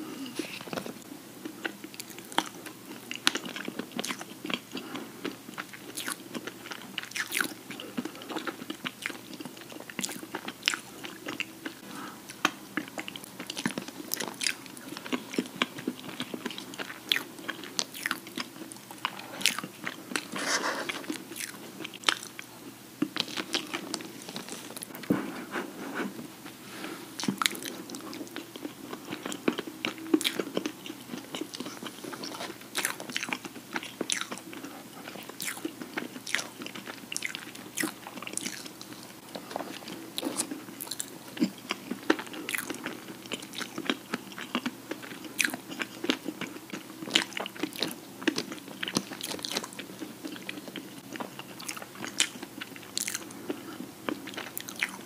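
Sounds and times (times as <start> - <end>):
close chewing and mouth clicks: 0.3 - 25.0, 27.2 - 55.0.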